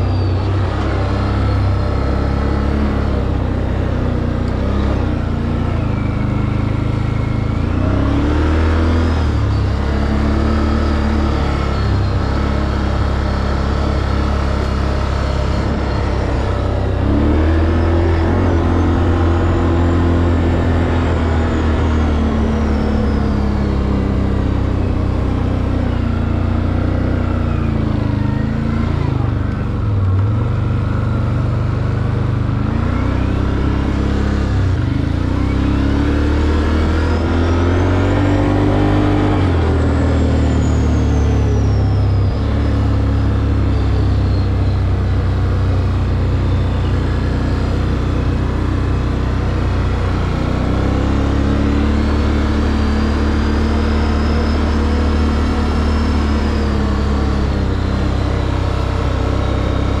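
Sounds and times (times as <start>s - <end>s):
atv engine revving: 0.0s - 60.0s.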